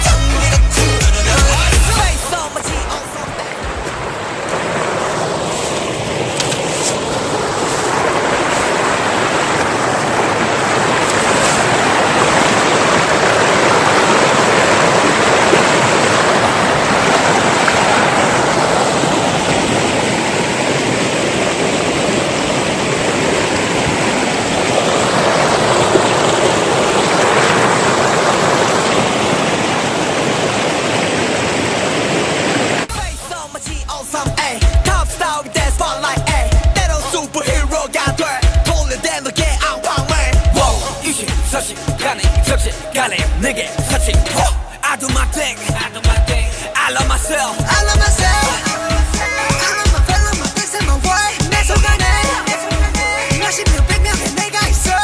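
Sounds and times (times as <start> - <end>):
rushing river water: 0.0 - 55.0.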